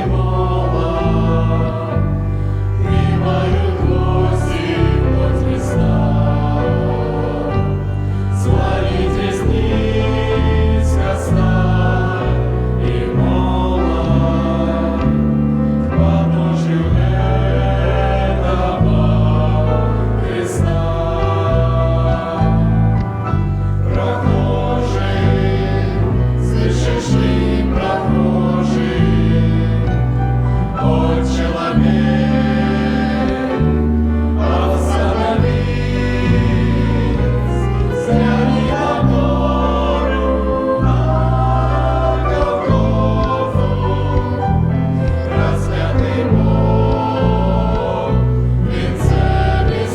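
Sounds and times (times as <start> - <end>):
backing music: 0.0 - 49.9
choir singing: 0.0 - 49.9
instrumental accompaniment: 0.0 - 49.9.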